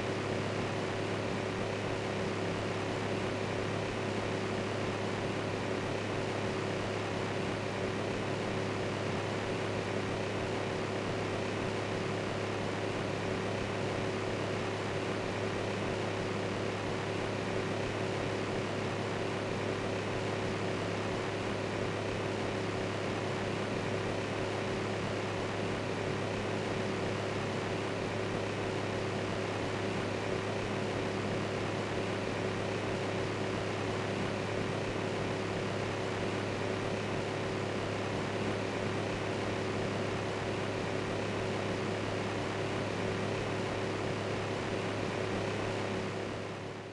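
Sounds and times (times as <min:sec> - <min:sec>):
fan running: 0:00.0 - 0:46.9.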